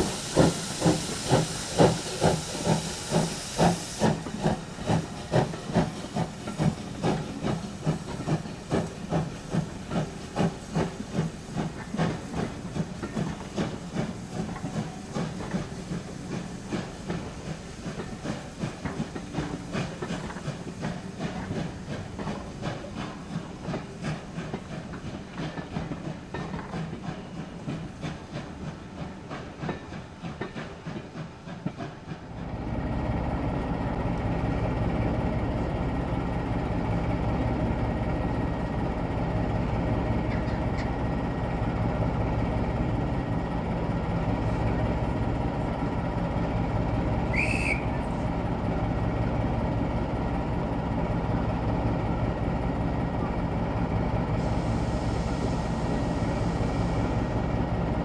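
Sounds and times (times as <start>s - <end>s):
steam train clatter: 0.0s - 58.0s
train rumble with low hum: 0.0s - 58.0s.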